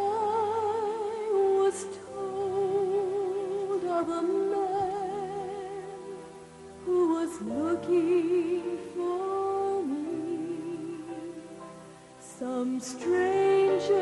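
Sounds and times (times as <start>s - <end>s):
soft instrumental accompaniment: 0.0s - 14.0s
woman singing slow song: 0.0s - 14.0s.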